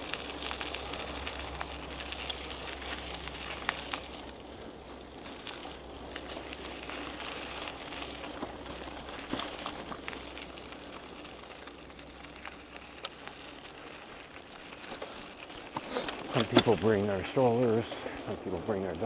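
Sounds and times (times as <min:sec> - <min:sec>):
bicycle tyres rolling on dirt: 0:00.0 - 0:19.0.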